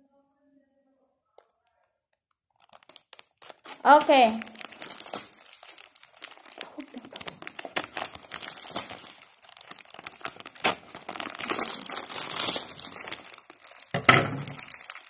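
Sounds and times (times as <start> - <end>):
cellophane crinkling: 2.2 - 15.0
scissors cutting cellophane: 2.6 - 15.0.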